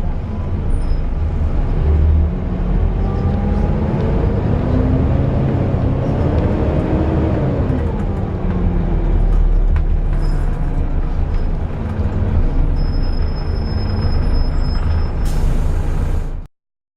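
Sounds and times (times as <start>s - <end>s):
bus diesel engine running: 0.0s - 16.5s.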